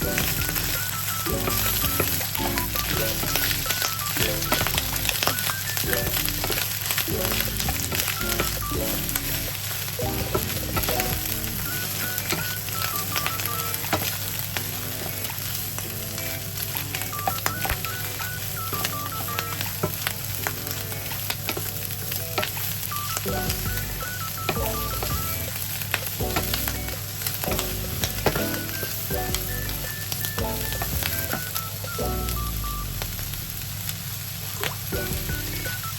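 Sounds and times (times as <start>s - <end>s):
food sizzling in a frying pan: 0.0s - 35.9s.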